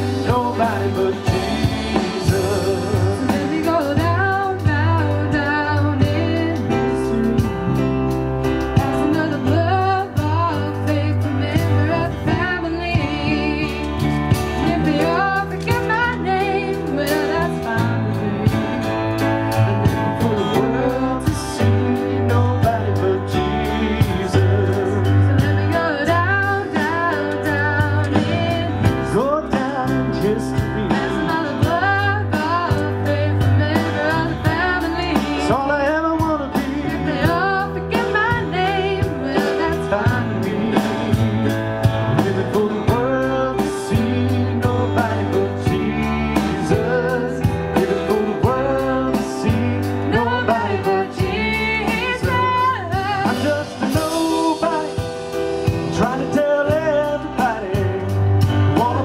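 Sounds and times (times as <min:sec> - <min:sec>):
band playing guitar bass and drums: 0:00.0 - 0:59.0
person singing: 0:00.0 - 0:59.0.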